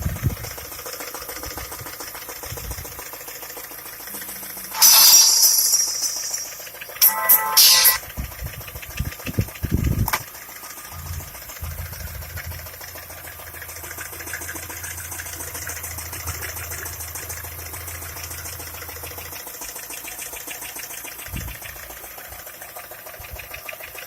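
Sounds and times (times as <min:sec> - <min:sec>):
car engine idling with ticking knock: 0:00.0 - 0:24.0.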